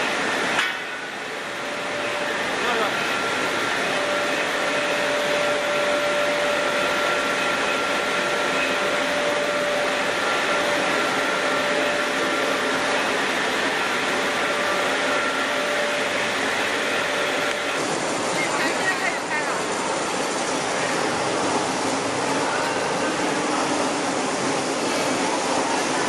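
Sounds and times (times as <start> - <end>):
machinery rushing hum: 0.0 - 26.0.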